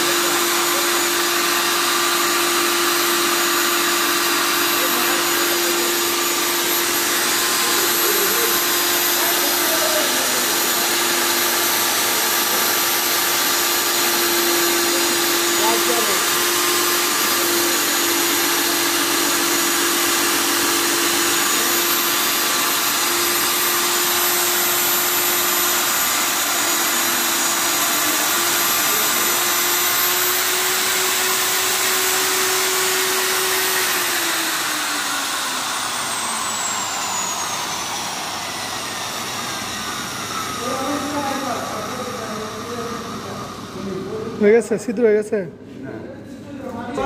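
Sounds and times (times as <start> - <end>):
drill bit grinding concrete: 0.0 - 44.5
core drill motor whine: 0.0 - 44.7.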